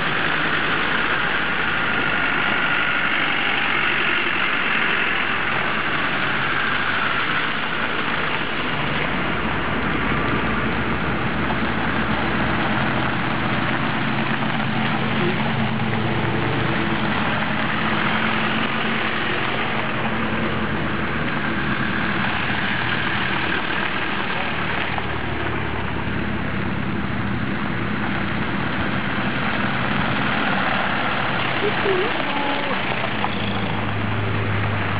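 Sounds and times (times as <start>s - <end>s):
off-road vehicles driving past: 0.0s - 34.9s
steady rushing noise: 0.0s - 34.9s.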